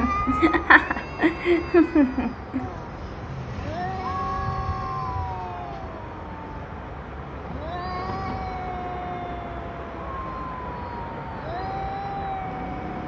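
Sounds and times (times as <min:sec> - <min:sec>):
cats yowling: 0:00.0 - 0:13.0.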